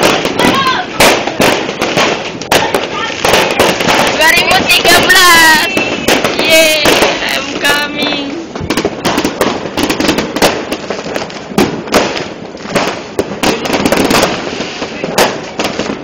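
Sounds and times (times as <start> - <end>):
fireworks and firecrackers banging: 0.0 - 16.0.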